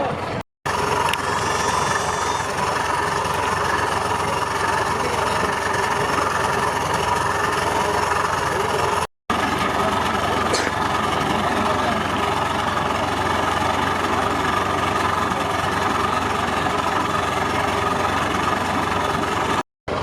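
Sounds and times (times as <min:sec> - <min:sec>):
outboard engine running: 0:00.0 - 0:20.0.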